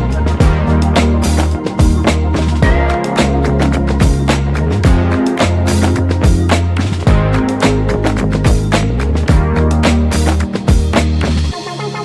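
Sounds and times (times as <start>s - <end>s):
bass notes: 0.0s - 12.0s
steady drum beat: 0.0s - 12.0s.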